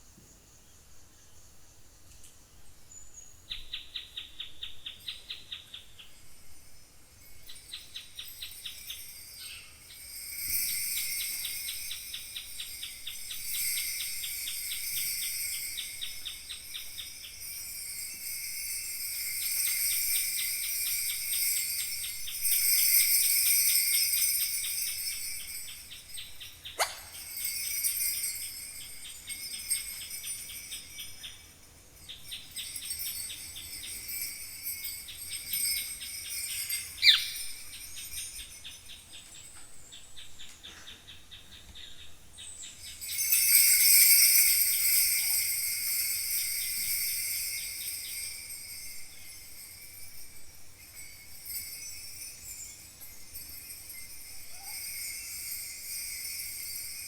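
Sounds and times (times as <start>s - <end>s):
bronze jingle bells shaken: 4.9s - 40.2s, 42.6s - 57.0s.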